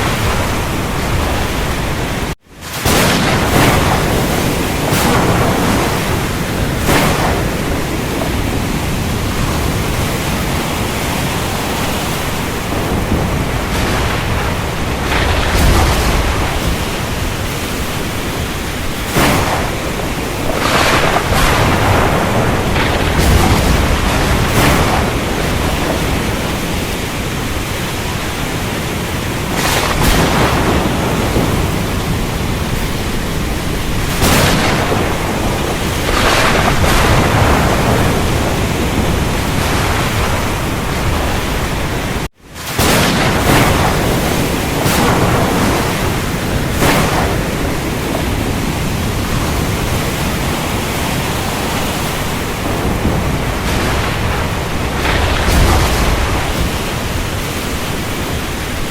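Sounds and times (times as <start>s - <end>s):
heavy rain: 0.0s - 58.9s
wind: 0.0s - 58.9s.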